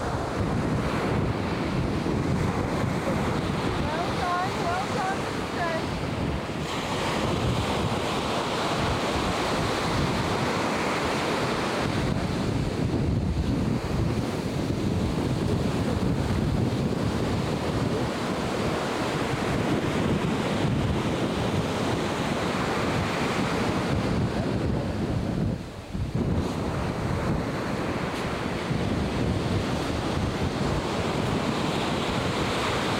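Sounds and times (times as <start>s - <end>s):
ocean surf breaking: 0.0s - 32.9s
wind on microphone: 0.0s - 32.9s.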